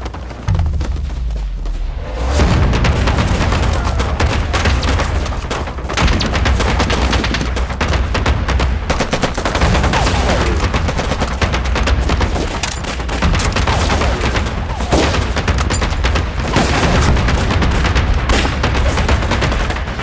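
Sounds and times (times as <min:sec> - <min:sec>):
gunshots: 0:00.0 - 0:20.0.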